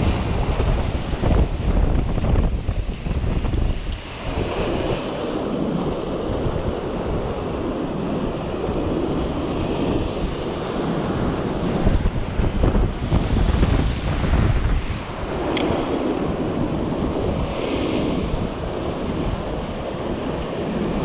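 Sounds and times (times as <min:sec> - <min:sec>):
surf washing over rocks: 0:00.0 - 0:21.0
wind buffeting microphone: 0:00.0 - 0:21.0.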